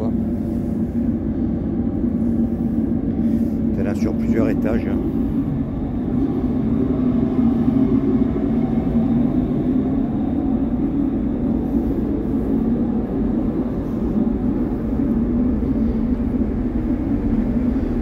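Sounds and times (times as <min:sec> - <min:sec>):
ferry machinery rumble: 0:00.0 - 0:18.0.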